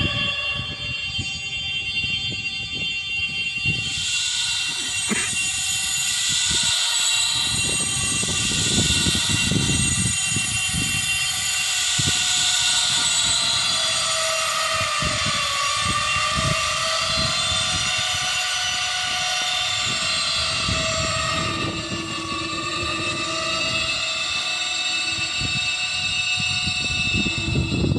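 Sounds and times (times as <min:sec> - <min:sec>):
drone propellers whining: 0:00.0 - 0:27.9.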